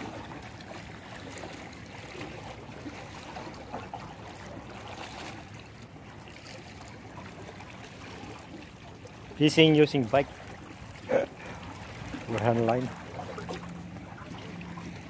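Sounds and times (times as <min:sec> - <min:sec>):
sea water washing against rocks: 0:00.0 - 0:15.0.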